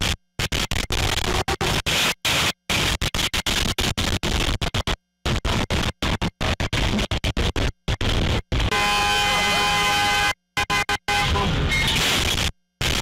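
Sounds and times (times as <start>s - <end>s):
stuttering static noise: 0.0s - 13.0s.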